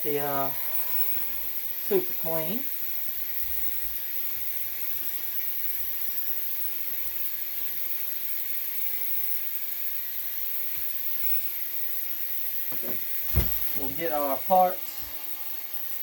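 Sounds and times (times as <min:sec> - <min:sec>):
ultrasonic cleaner humming: 0:00.0 - 0:16.0.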